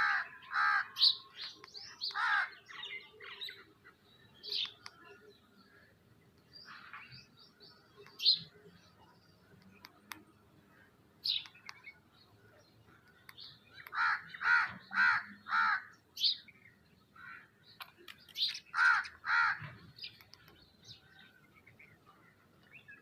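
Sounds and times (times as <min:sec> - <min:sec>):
harsh bird calls: 0:00.0 - 0:23.0.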